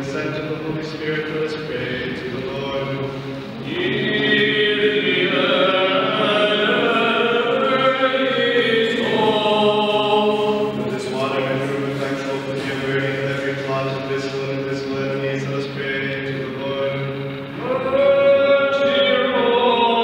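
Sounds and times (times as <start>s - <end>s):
men chanting in long notes: 0.0s - 20.0s.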